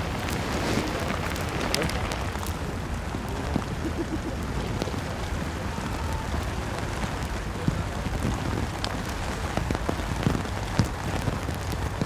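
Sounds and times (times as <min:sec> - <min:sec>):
raindrops ticking: 0:00.0 - 0:12.0
steady rain: 0:00.0 - 0:12.0
wind on the microphone: 0:00.0 - 0:12.0.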